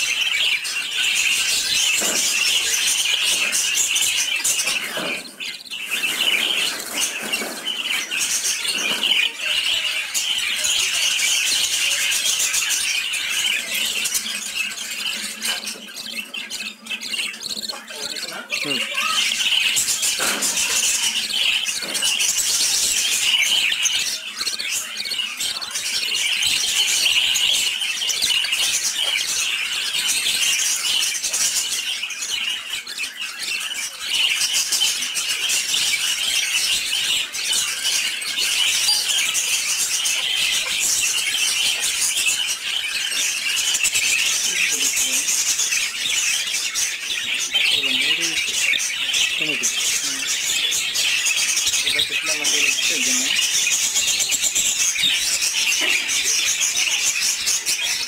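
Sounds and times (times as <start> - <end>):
parakeet chicks squeaky calling: 0.0 - 58.0.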